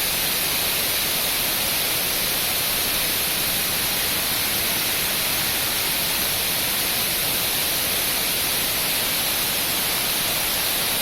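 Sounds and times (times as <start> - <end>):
waterfall hissing: 0.0 - 11.0.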